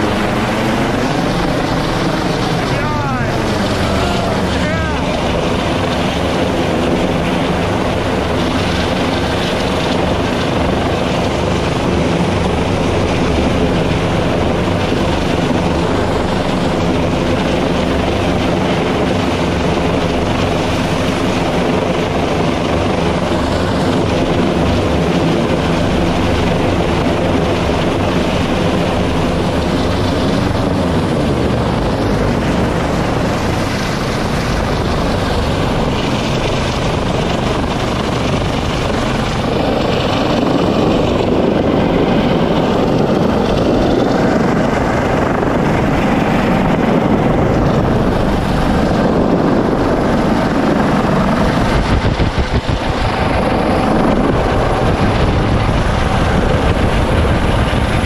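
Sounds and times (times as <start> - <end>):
helicopter hovering overhead: 0.0 - 58.0.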